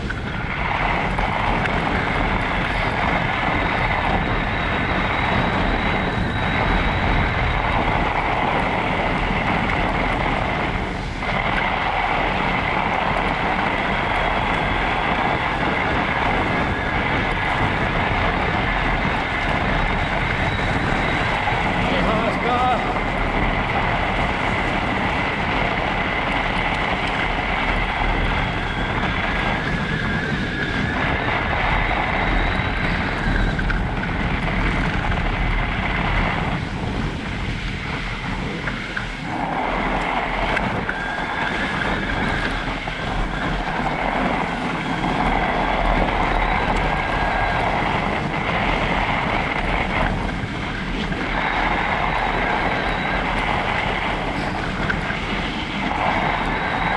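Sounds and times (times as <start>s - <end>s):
tyres rushing on snow: 0.0s - 56.9s
wind on microphone: 0.0s - 56.9s.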